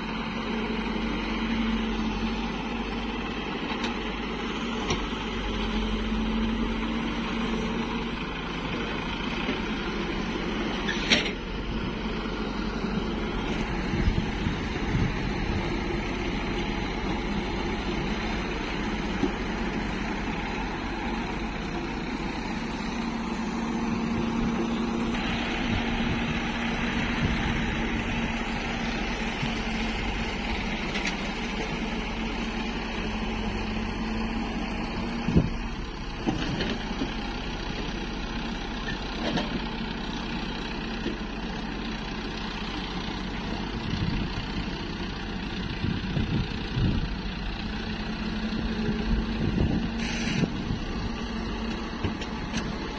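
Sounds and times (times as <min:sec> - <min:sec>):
excavator diesel engine: 0:00.0 - 0:52.9
tractor engine running: 0:00.0 - 0:52.9.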